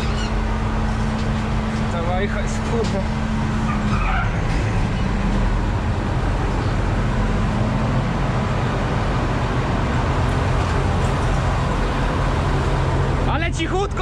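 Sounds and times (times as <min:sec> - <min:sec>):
combine harvester engine hum: 0:00.0 - 0:14.0.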